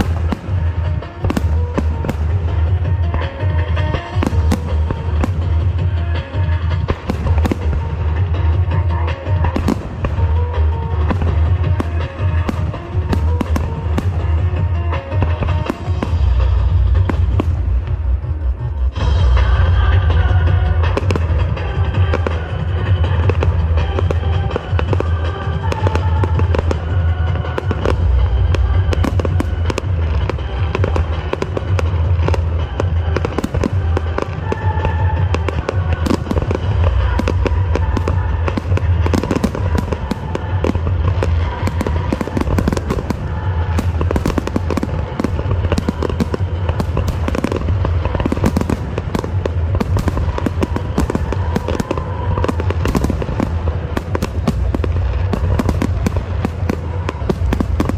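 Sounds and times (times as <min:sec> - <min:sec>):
fireworks bangs and crackling: 0:00.0 - 0:57.9
music playing: 0:00.0 - 0:57.9.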